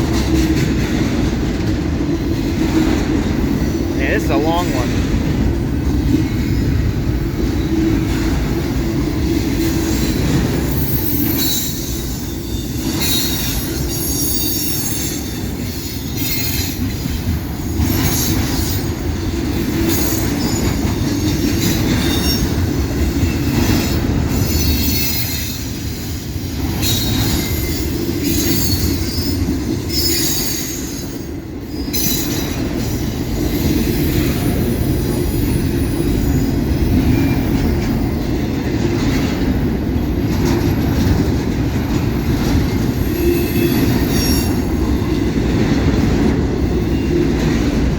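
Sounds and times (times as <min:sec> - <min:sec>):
freight train rolling past: 0:00.0 - 0:47.9.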